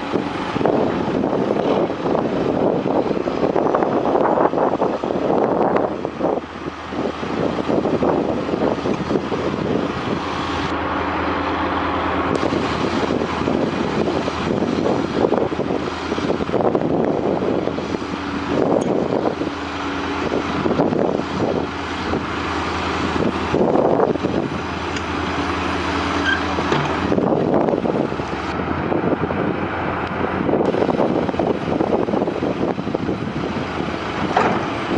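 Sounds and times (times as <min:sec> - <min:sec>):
heavy construction machinery engines: 0:00.0 - 0:34.9.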